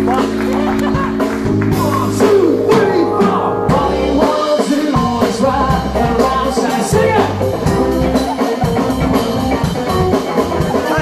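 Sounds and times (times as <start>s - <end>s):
drum kit: 0.0s - 11.0s
electric guitar bending notes: 0.0s - 11.0s.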